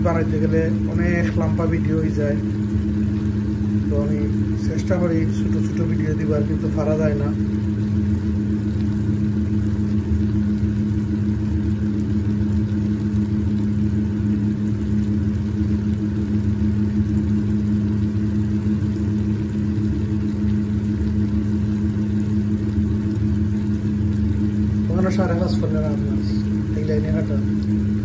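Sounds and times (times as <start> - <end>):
low mechanical hum of kitchen machinery: 0.0 - 28.0.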